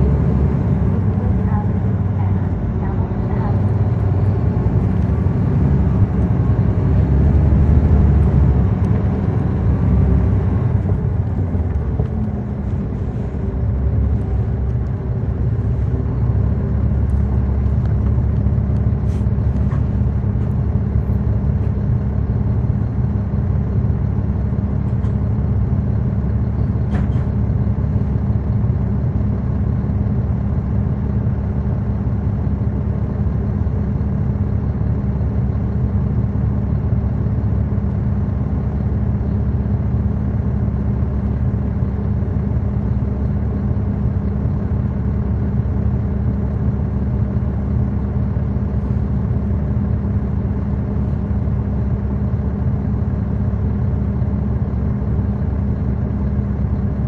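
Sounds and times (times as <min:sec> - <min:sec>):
bus diesel engine humming: 0:00.0 - 0:57.0.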